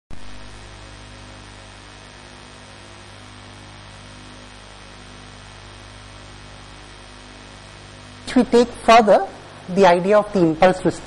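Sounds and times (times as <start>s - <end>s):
electrical mains hum: 0.1s - 11.0s.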